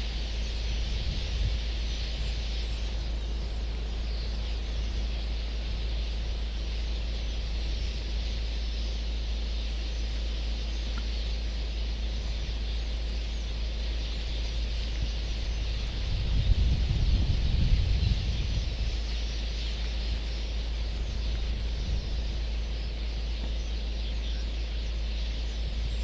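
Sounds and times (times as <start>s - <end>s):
faint bird calls: 0.0s - 26.0s
low rumble: 0.0s - 26.0s.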